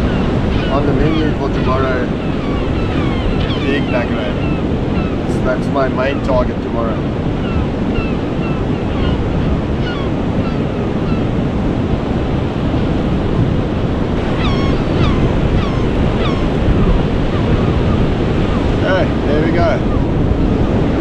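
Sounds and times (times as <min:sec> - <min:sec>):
surf: 0:00.0 - 0:21.0
wind buffeting microphone: 0:00.0 - 0:21.0.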